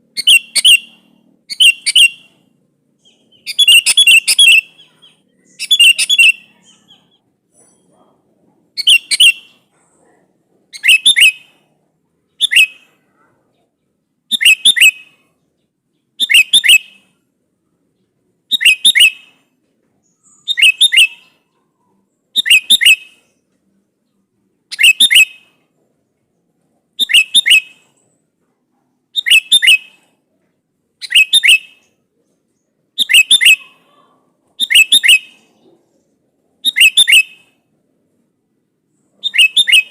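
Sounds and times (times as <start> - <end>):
bird chirping phrases: 0.0 - 28.3, 29.0 - 37.6, 38.9 - 39.9.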